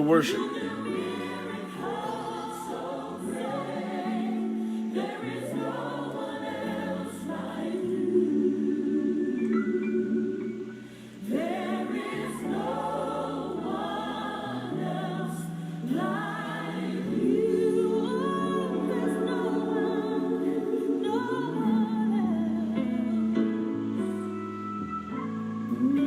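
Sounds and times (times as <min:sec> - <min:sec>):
choir singing gospel: 0:00.0 - 0:26.0.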